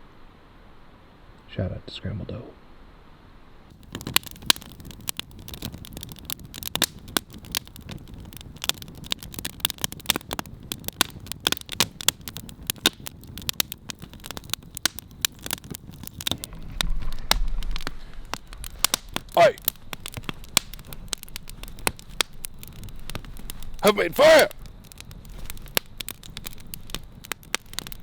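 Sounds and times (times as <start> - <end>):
wood fire crackling and popping: 3.7 - 28.0.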